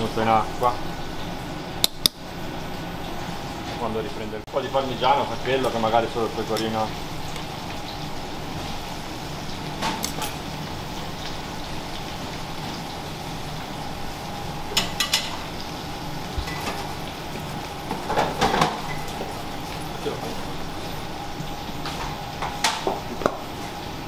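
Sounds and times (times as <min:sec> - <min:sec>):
butter sizzling in a pan: 0:04.6 - 0:24.0.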